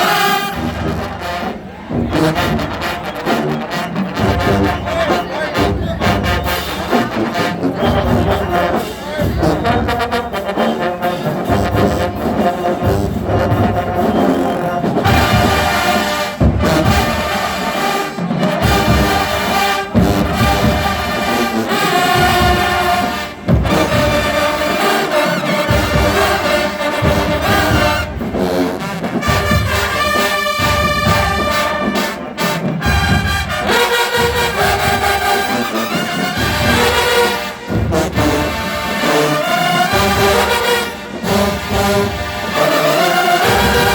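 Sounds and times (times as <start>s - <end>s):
marching band playing: 0.0s - 43.9s.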